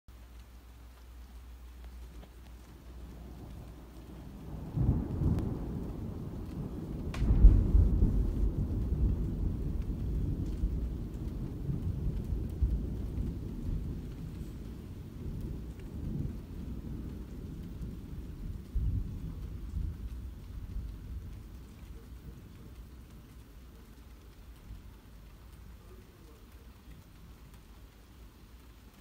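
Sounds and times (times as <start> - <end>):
steady rain: 0.1 - 29.0
thunder rumbling and cracking: 2.0 - 29.0.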